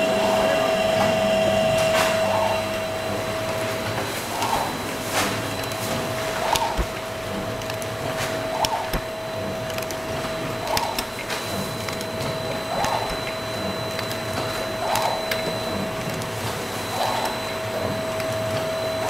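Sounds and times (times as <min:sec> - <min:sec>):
packing machine whine: 0:00.0 - 0:19.0
mechanical noise with clicks: 0:03.6 - 0:19.0.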